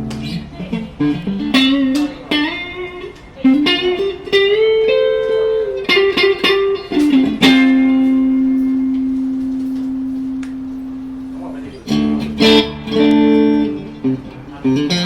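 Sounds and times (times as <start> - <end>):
electric guitar lead phrase: 0.0 - 15.0.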